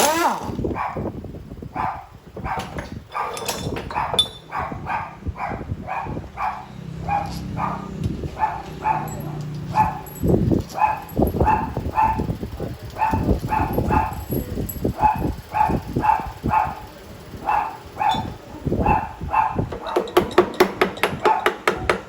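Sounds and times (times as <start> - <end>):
dog barking: 0.6 - 20.2, 21.1 - 22.0.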